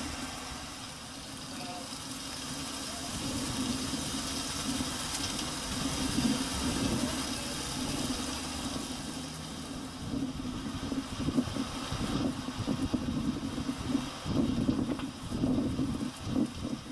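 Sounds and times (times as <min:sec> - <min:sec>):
engine running: 0:00.0 - 0:16.6.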